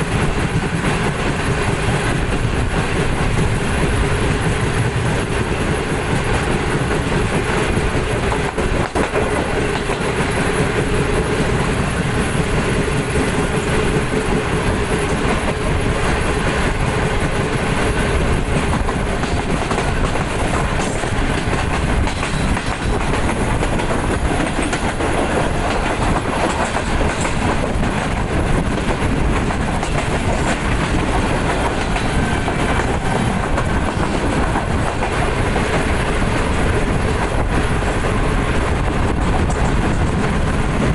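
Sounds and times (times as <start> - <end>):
train wheels on track: 0.0 - 40.9.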